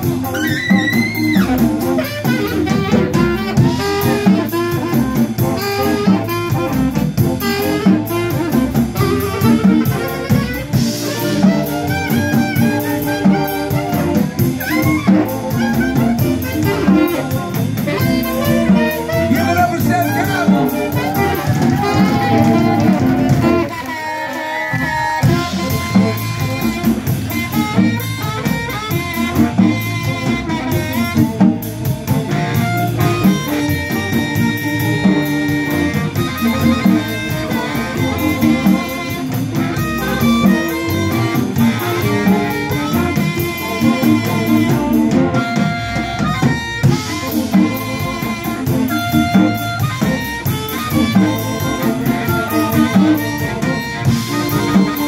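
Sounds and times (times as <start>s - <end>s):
electric bass: 0.0s - 24.0s, 24.7s - 55.0s
amplified harmonica: 0.0s - 55.0s
drum kit: 0.0s - 55.0s
electric guitars: 0.0s - 55.0s.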